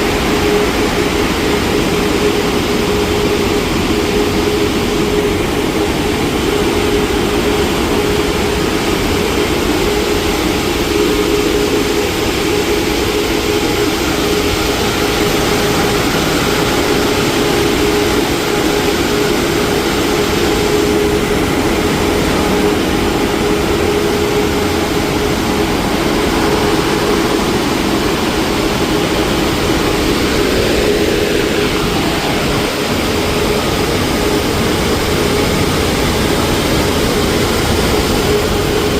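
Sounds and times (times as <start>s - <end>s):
car wash machinery roaring: 0.0s - 38.9s
constant hum: 0.0s - 38.9s.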